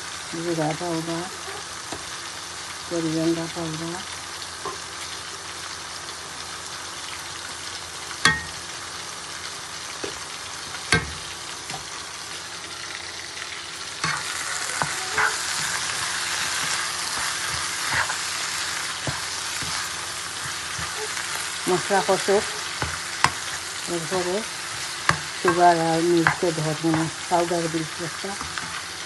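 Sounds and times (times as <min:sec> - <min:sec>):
spices sizzling in oil: 0:00.0 - 0:29.0.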